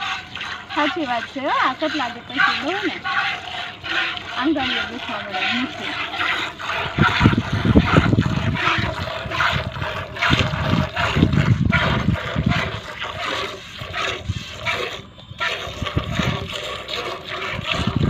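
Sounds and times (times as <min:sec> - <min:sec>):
milk squirting into a bucket: 0:00.0 - 0:18.0.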